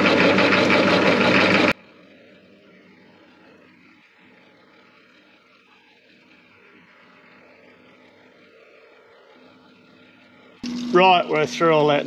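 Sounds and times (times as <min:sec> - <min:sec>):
metal lathe hum and hiss: 0:00.0 - 0:12.0.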